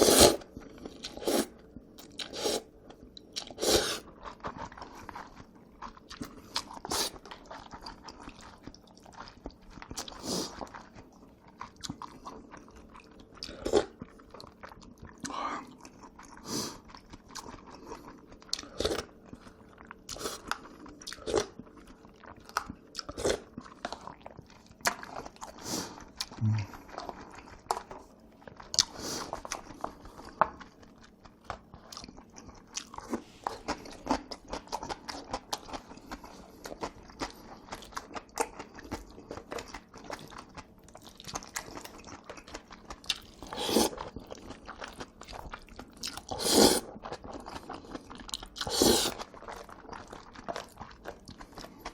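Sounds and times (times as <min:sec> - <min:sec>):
chewing and biting noodles: 0:00.0 - 0:51.9.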